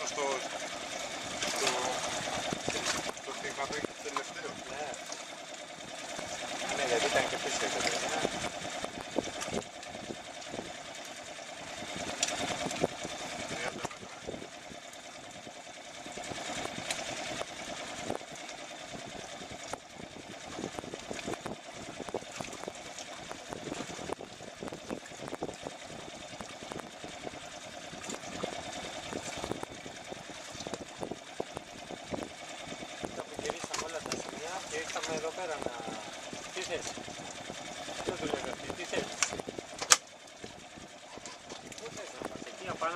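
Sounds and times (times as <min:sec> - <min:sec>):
fishing reel whirring: 0:00.0 - 0:42.9.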